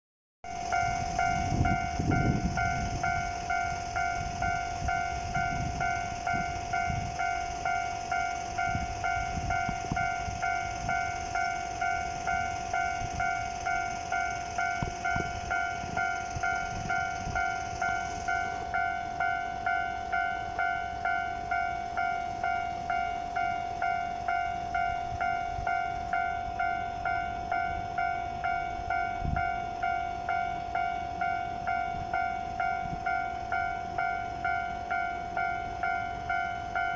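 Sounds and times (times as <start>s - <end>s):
level crossing bell ringing: 0.5s - 36.9s.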